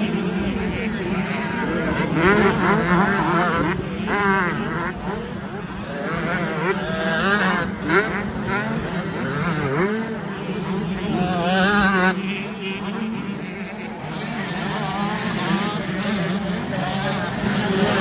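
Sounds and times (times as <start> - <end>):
drone of distant bikes: 0.0 - 18.0
motocross bikes revving: 0.0 - 18.0.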